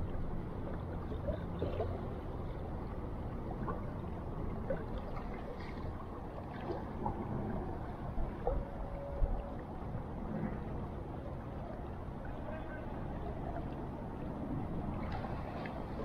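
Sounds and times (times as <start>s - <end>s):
river water flowing: 0.0s - 16.0s
water gurgles: 0.0s - 16.0s.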